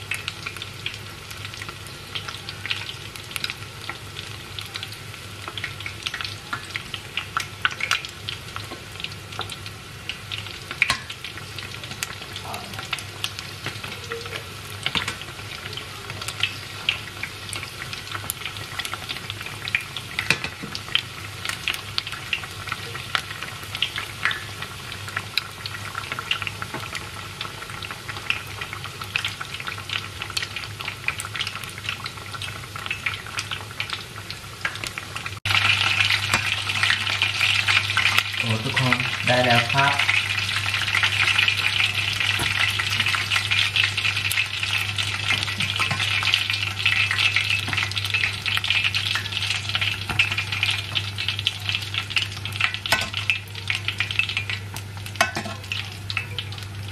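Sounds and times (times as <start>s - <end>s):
deep-frying sizzle and pops: 0.0s - 56.9s.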